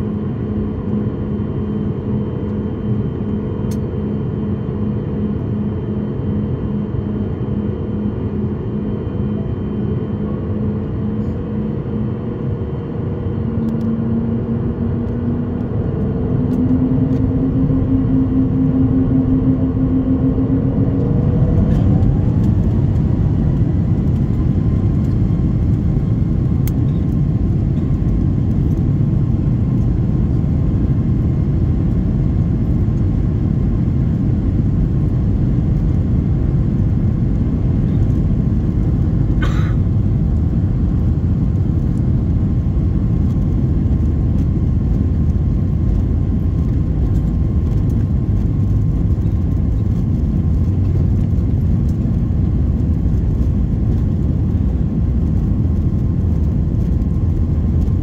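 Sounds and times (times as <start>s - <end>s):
faint steady whine: 0.0s - 58.0s
jet engines and wheels rumbling: 0.0s - 58.0s.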